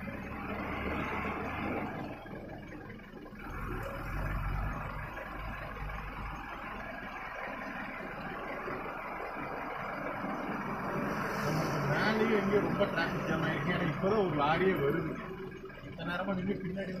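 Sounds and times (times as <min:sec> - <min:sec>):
lorry diesel engines passing: 0:00.0 - 0:17.0
road noise: 0:00.0 - 0:17.0.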